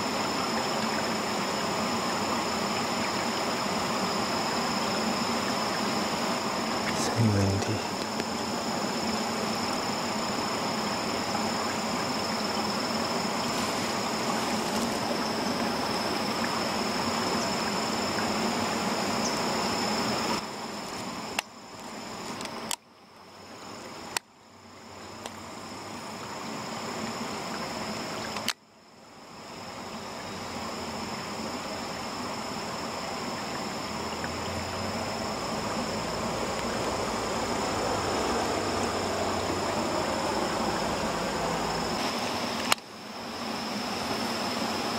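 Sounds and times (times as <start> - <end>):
high insect drone: 0.0 - 44.9
steady water rushing: 0.0 - 44.9.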